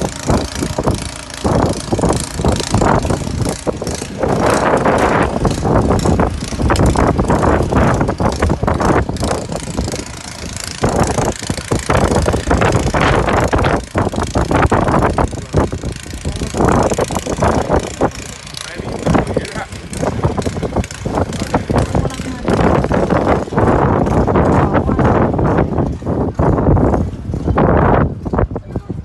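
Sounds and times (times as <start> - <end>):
snow blower engine running: 0.0 - 29.0.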